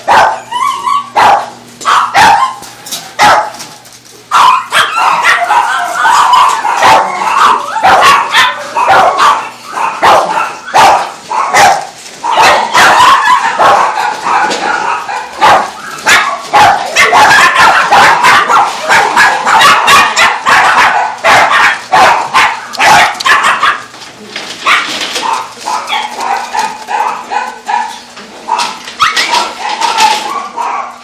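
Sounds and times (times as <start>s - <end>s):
many dogs barking: 0.0s - 3.6s, 4.3s - 23.9s, 24.6s - 31.0s.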